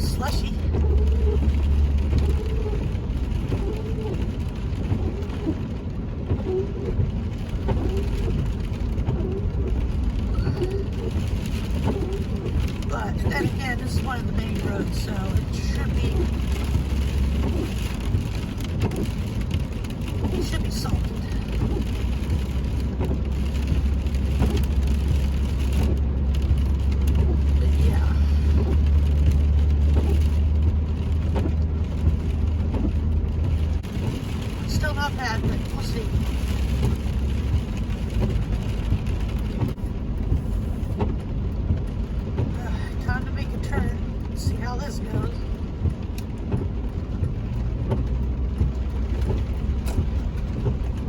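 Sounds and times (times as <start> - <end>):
car engine and tyre rumble: 0.0 - 51.0
windshield wipers sweeping: 0.0 - 51.0.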